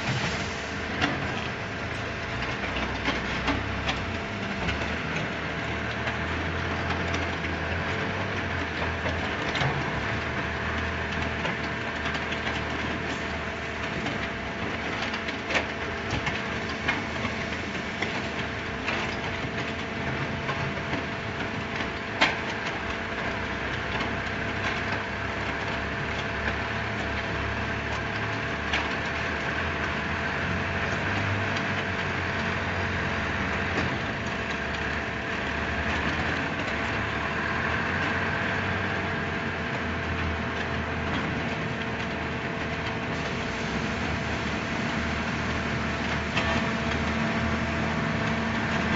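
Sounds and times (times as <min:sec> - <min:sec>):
concrete mixer pump drone: 0:00.0 - 0:48.9.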